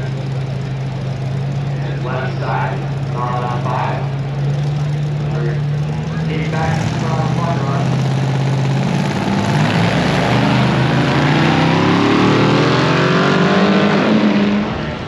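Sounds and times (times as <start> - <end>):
engine idling: 0.0 - 12.1
off-road vehicle engine accelerating: 0.0 - 15.0.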